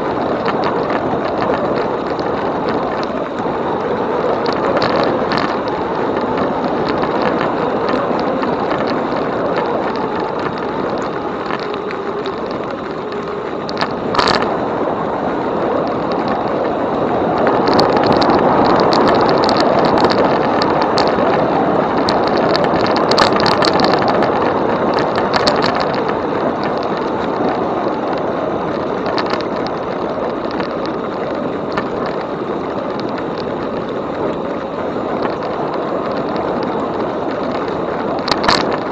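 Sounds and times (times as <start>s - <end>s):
tyre and wind noise: 0.0s - 38.9s.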